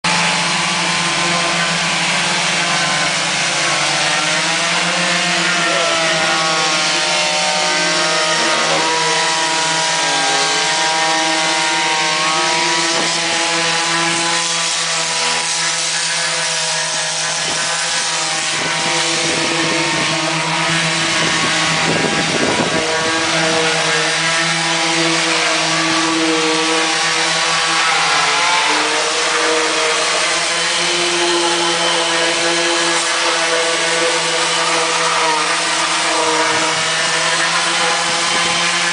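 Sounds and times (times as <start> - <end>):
orbital sanders whining: 0.0 - 38.9.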